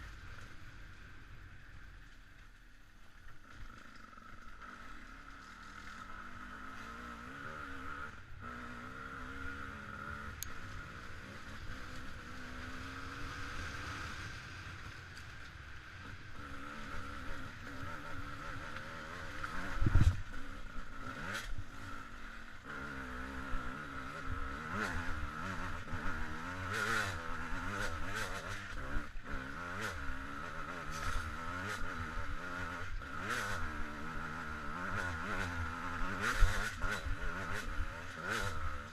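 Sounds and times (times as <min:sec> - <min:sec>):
motorcycle engine revving: 0:03.2 - 0:38.9.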